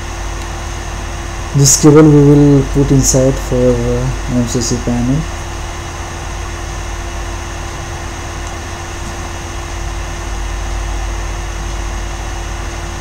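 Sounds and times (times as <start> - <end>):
air conditioning machinery humming: 0.0 - 13.0.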